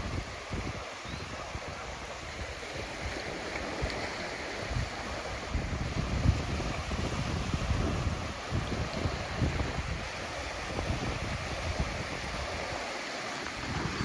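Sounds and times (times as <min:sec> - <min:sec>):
sea waves washing onto beach: 0:00.0 - 0:14.0
wind buffeting microphone: 0:00.0 - 0:14.0.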